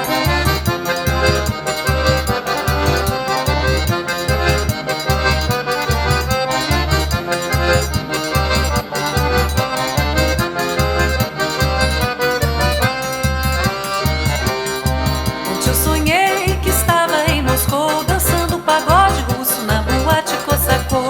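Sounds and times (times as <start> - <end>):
accordion melody: 0.0 - 21.0.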